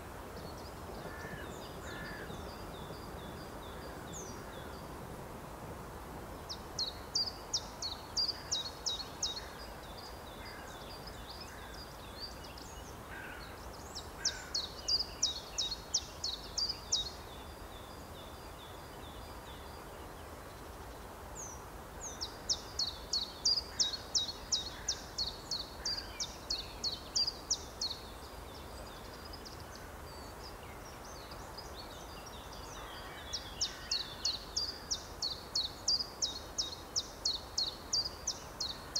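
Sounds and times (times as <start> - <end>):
songbird singing: 0.0 - 5.1, 6.1 - 38.9
outdoor background noise: 0.0 - 38.9.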